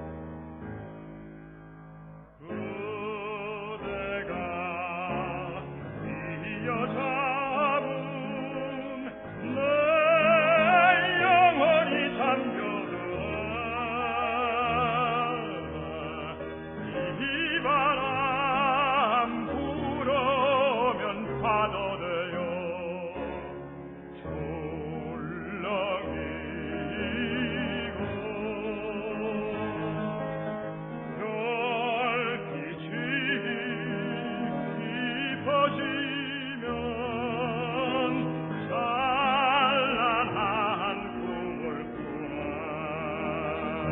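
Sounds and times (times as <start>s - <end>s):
operatic tenor singing: 2.4s - 43.9s.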